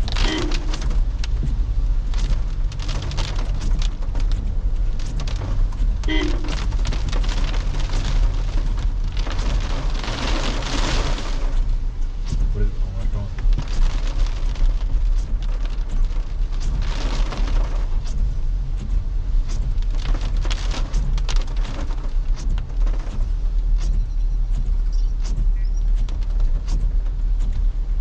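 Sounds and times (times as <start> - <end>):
car engine and tyre rumble: 0.0 - 28.0.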